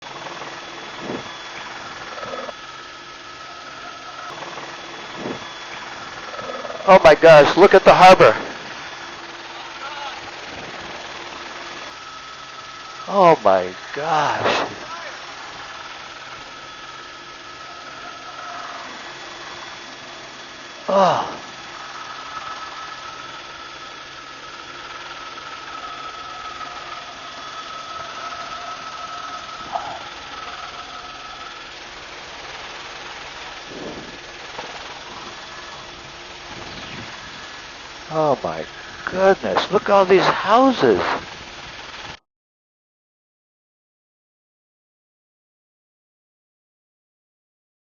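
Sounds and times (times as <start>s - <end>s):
aircraft engine drone: 0.0s - 42.2s
thin whine: 0.0s - 42.2s.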